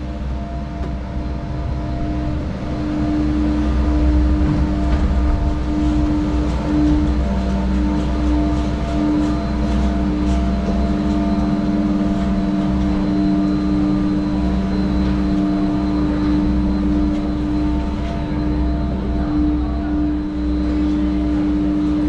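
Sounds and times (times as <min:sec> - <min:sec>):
chairlift machinery humming: 0:00.0 - 0:22.0.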